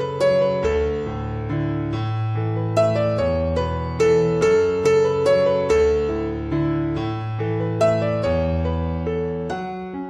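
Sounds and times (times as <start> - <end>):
soft electric piano melody: 0.0 - 10.0.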